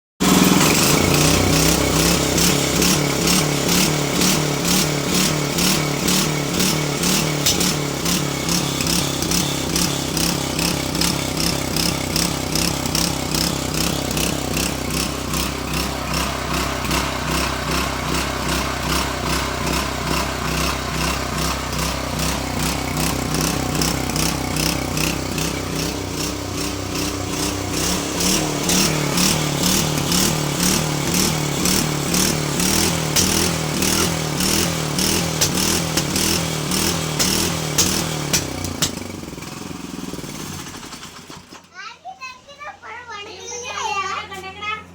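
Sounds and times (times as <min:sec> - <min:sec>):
exhaust pops: 0:00.2 - 0:16.0, 0:19.0 - 0:41.7
motorcycle engine revving: 0:00.2 - 0:41.7.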